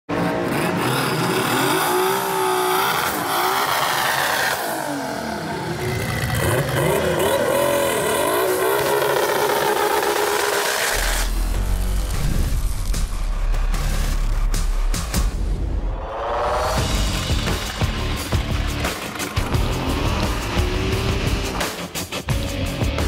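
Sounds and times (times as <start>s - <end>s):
car engines revving: 0.1s - 12.3s, 15.8s - 22.2s.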